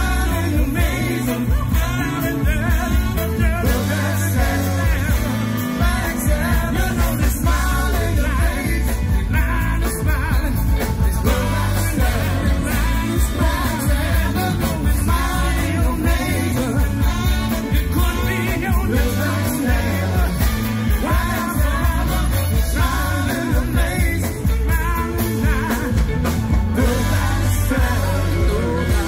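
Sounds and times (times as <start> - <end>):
lead and backing vocals: 0.0 - 29.0
live band with horns: 0.0 - 29.0.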